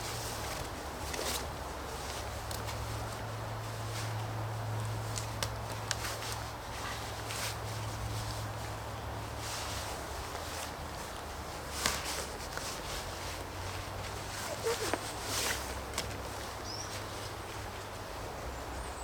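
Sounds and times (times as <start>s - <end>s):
rustling brush: 0.0s - 18.2s.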